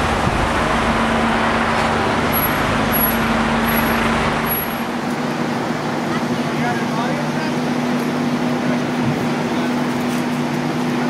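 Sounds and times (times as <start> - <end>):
street noise: 0.0 - 11.0
vehicle engine idling: 0.0 - 11.0.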